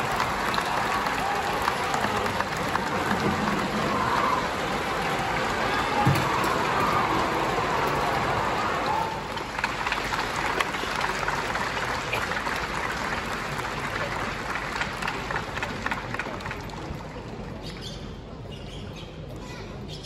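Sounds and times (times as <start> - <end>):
crowd applauding: 0.0 - 17.4.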